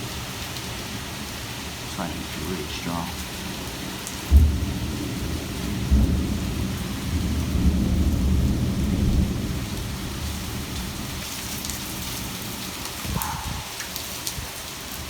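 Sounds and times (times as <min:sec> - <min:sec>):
heavy rain: 0:00.0 - 0:15.0
thunder rumbling: 0:01.8 - 0:14.6.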